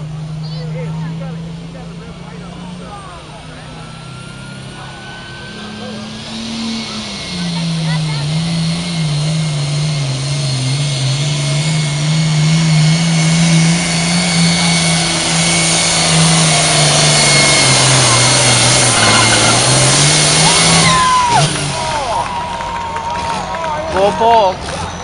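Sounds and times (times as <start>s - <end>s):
tractor engine at high throttle: 0.0s - 25.0s.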